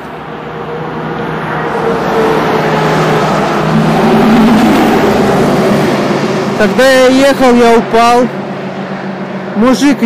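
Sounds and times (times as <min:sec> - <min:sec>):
vehicle approaching on highway: 0:00.0 - 0:10.0.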